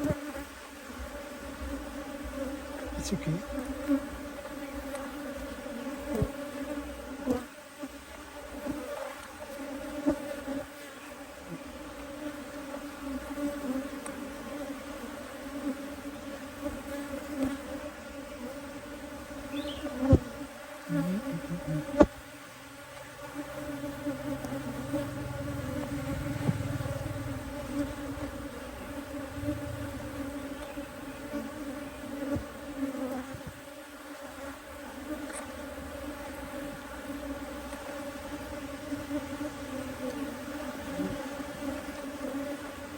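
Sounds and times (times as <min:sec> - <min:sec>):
bees buzzing: 0:00.0 - 0:42.9.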